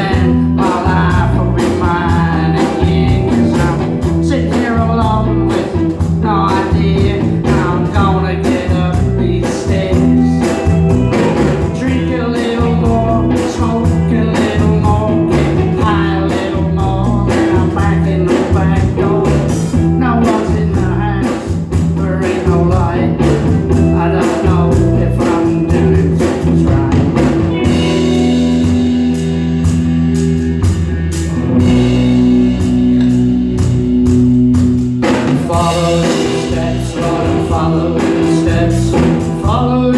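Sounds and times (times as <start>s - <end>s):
person singing: 0.0s - 29.8s, 35.0s - 39.9s
live rock band playing: 0.0s - 39.9s.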